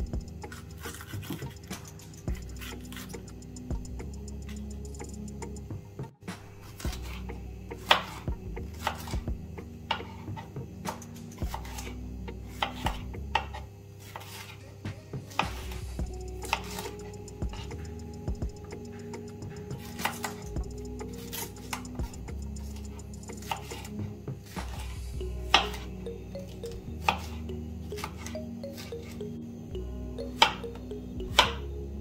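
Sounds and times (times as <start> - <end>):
soft background music: 0.0 - 32.0.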